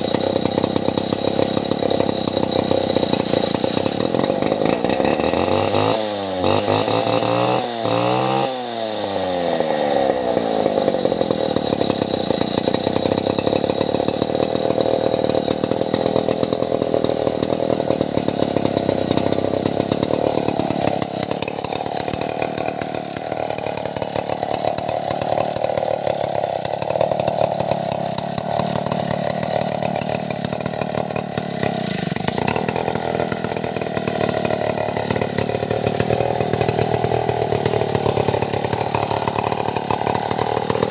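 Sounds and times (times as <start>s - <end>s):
chainsaw cutting tree: 0.0s - 40.9s.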